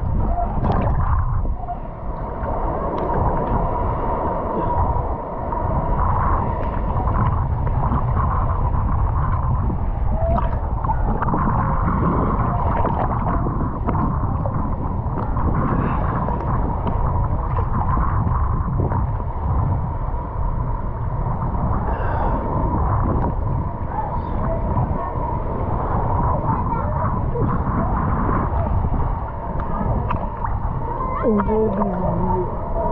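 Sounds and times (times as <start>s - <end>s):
water sloshing and splashing: 0.0s - 21.7s, 22.4s - 32.9s
steady low rumble: 0.0s - 32.9s.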